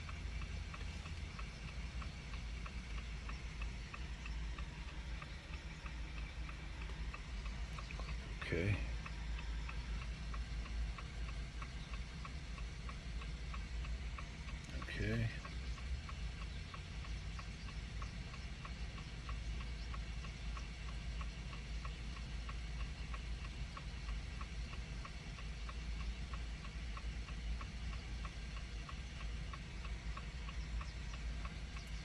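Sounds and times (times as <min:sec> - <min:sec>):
low steady hum: 0:00.0 - 0:32.0
steady ticking: 0:00.0 - 0:32.0.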